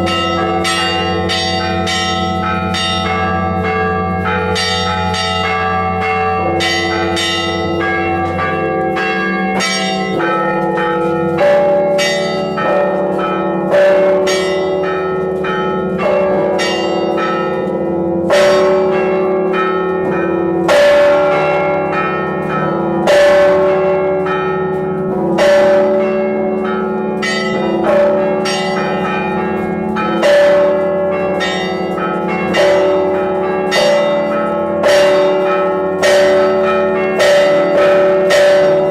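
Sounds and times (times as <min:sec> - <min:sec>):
heavy bell strike: 0:00.0 - 0:38.9
small church bells ringing: 0:00.0 - 0:38.9.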